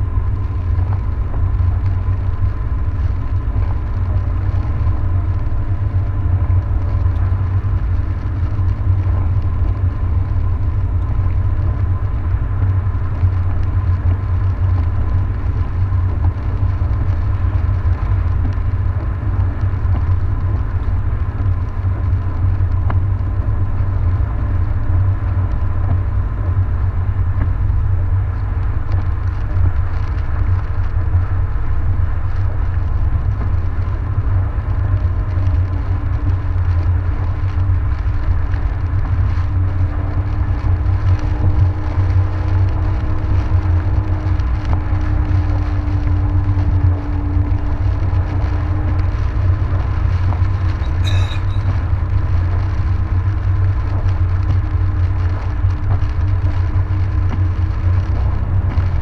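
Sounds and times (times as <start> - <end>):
car engine and tyres rumble: 0.0 - 59.0.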